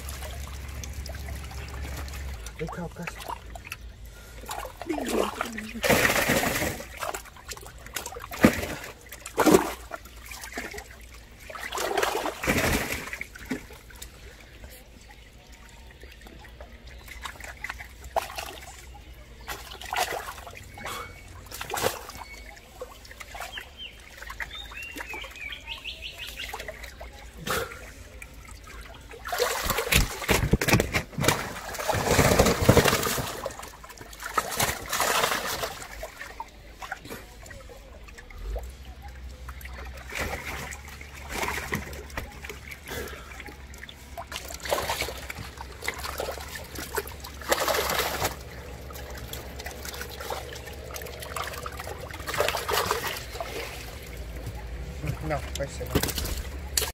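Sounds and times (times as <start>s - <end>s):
fish thrashing in water: 0.0s - 56.9s
water splashing and trickling: 0.0s - 56.9s.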